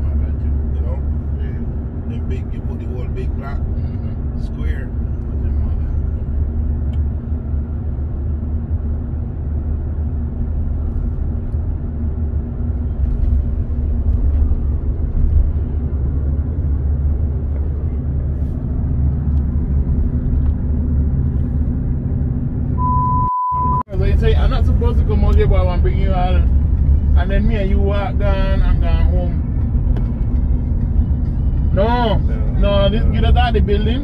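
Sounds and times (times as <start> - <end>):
car engine rumble: 0.0 - 34.0
road noise: 0.0 - 34.0.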